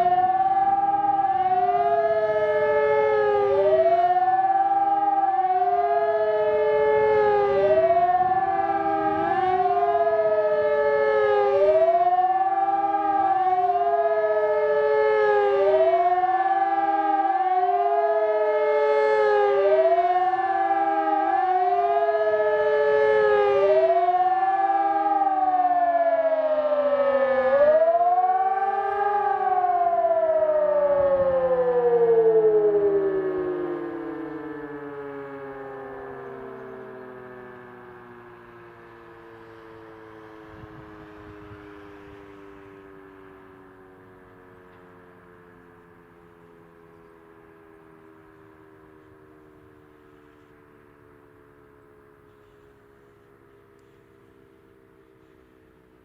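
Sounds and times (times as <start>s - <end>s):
wailing siren: 0.0s - 56.0s.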